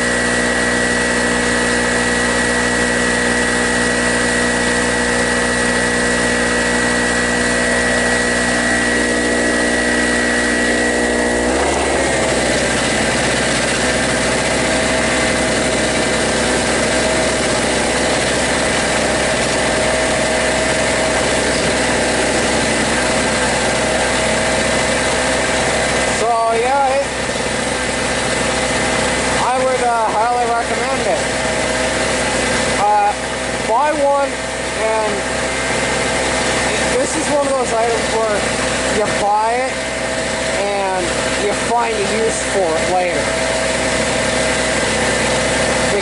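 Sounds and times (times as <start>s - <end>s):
portable generator running: 0.0s - 46.0s.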